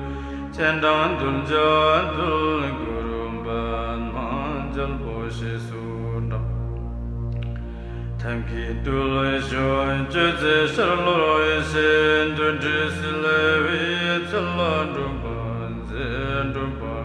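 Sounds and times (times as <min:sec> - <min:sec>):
person chanting melodically: 0:00.0 - 0:17.0.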